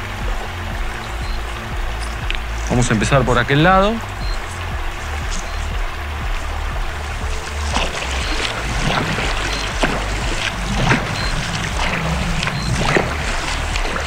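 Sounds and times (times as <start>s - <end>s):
footsteps splashing through water: 0.0s - 14.0s
stream current rushing: 0.0s - 14.0s.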